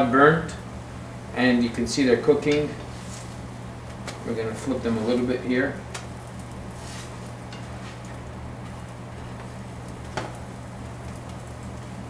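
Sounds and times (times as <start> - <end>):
steady low hum: 0.0 - 12.0
batter sizzling on a hot pan: 1.3 - 12.0.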